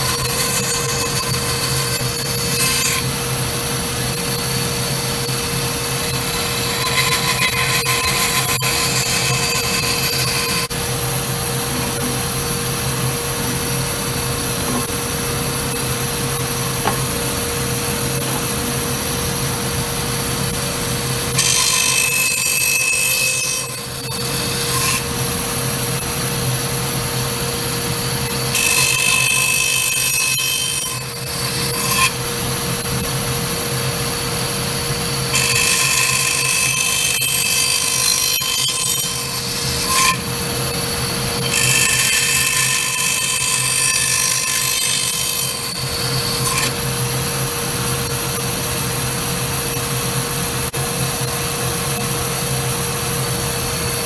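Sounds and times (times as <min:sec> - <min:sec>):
band saw cutting wood: 0:00.0 - 0:48.5
band saw motor hum: 0:00.0 - 0:54.0.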